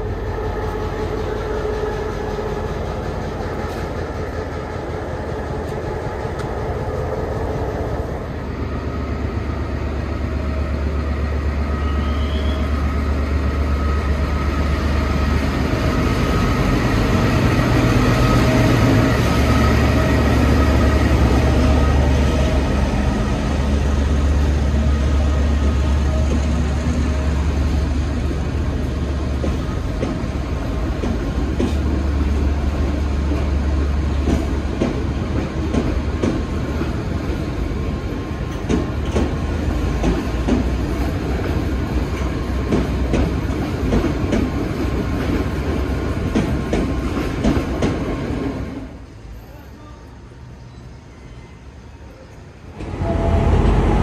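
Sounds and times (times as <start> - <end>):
diesel locomotive drone: 0.0 - 54.0
rail running noise: 0.0 - 54.0.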